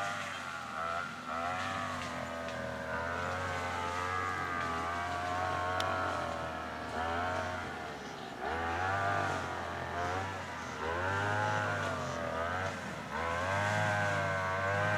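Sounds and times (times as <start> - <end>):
grass trimmer motor revving: 0.0 - 14.9.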